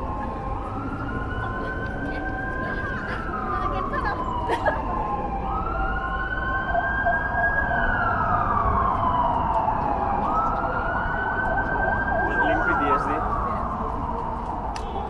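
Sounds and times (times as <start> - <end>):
city street noise: 0.0 - 15.0
emergency vehicle siren wailing: 0.0 - 15.0.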